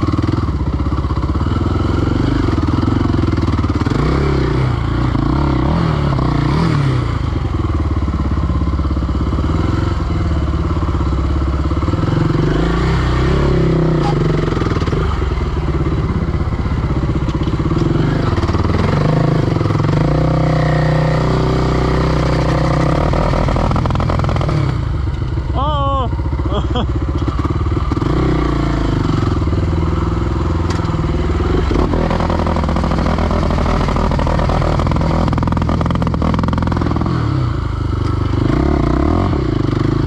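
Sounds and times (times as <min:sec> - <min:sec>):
quad engine revving: 0:00.0 - 0:07.7, 0:09.2 - 0:40.0.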